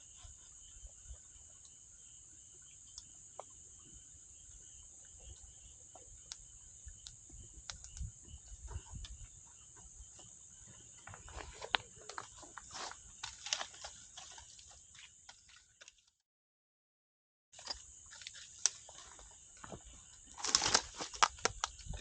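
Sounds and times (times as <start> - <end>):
high-pitched insect chorus: 0.0 - 15.9, 17.6 - 22.0.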